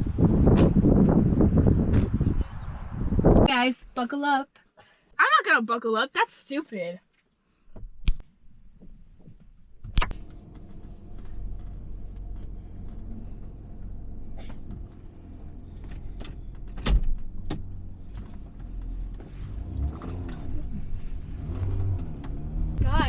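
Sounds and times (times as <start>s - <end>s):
car engine and road rumble: 0.0s - 3.6s, 7.6s - 23.0s.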